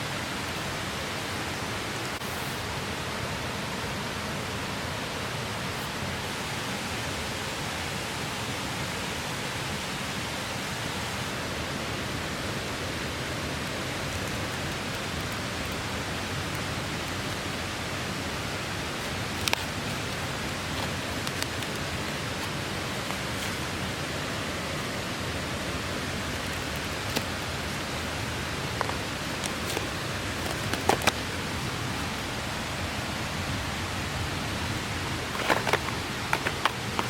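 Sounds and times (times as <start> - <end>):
mountain stream rushing: 0.0 - 37.0.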